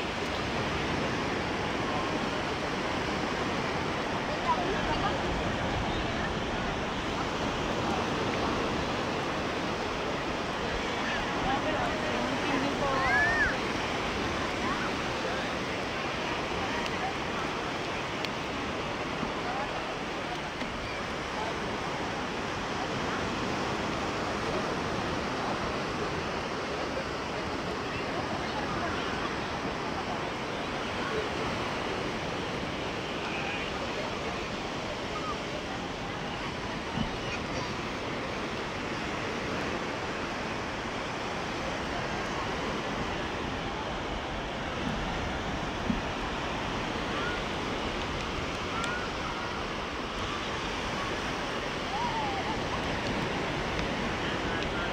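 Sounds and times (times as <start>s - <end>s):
distant chatter of people: 0.0s - 54.9s
sea surf on a beach: 0.0s - 54.9s.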